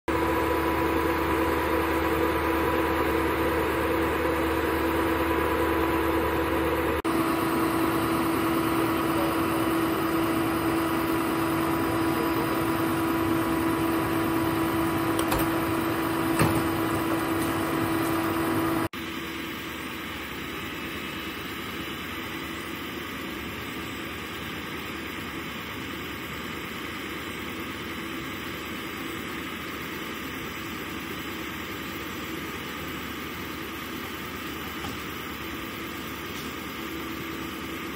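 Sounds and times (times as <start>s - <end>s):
truck engine running: 0.1s - 37.9s.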